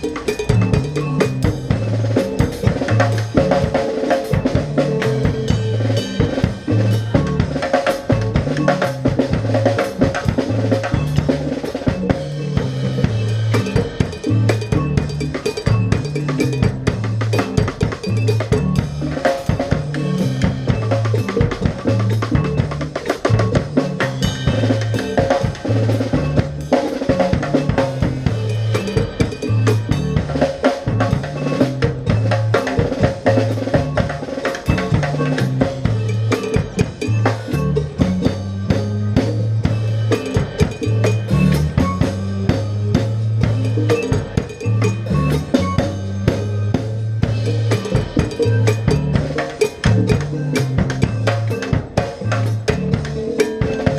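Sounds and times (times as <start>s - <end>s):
bass line: 0.0s - 53.9s
busy drum kit: 0.0s - 53.9s
cowbell strokes: 0.0s - 53.9s.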